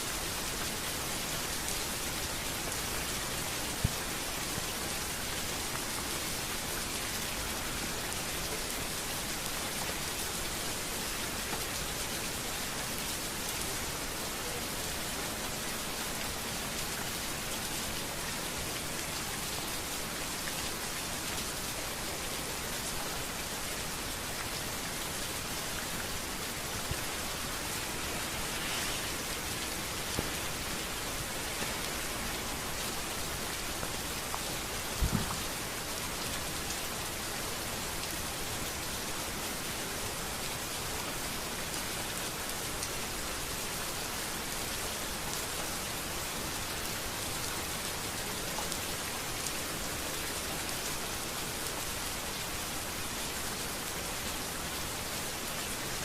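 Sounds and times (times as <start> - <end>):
rain on hard street: 0.0 - 56.0.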